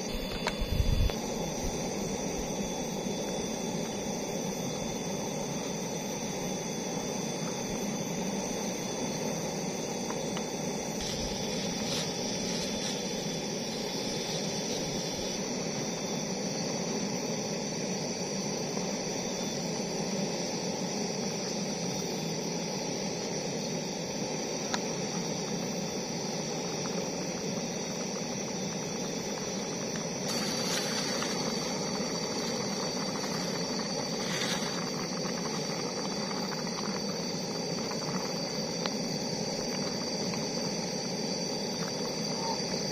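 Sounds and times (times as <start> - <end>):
faint high steady tones: 0.0 - 42.9
gas camping stove hissing: 0.0 - 42.9.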